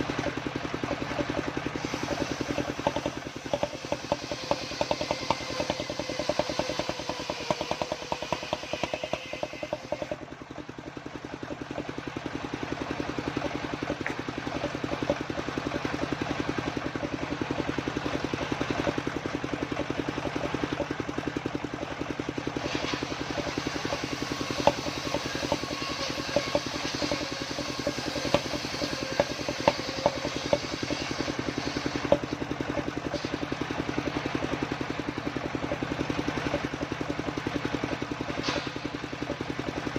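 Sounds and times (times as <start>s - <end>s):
circular saw engine running: 0.0s - 39.9s
saw cutting wood with clicks: 0.0s - 39.9s.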